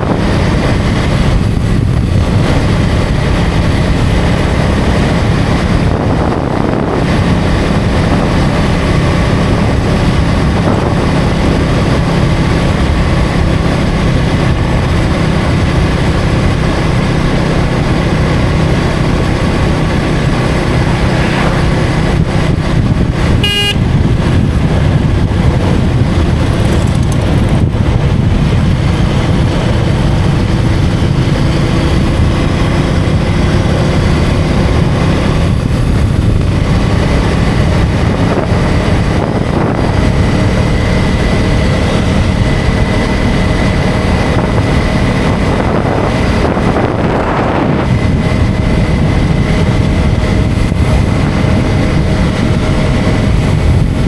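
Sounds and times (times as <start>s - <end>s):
motorcycle engine running: 0.0s - 54.0s
tyre and road noise: 0.0s - 54.0s
wind noise on microphone: 0.0s - 54.0s.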